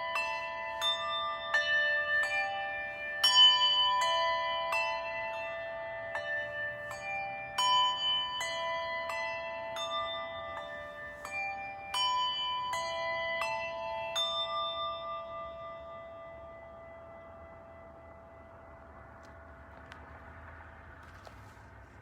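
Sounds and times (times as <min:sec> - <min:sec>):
bells struck and ringing: 0:00.0 - 0:21.3.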